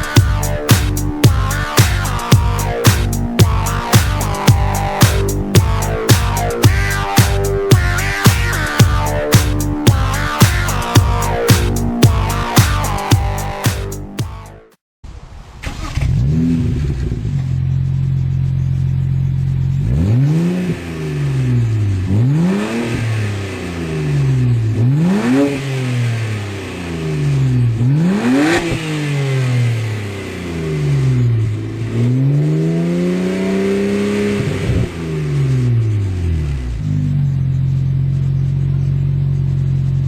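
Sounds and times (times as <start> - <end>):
car engine idling and revving: 0.0 - 14.8, 15.4 - 40.0.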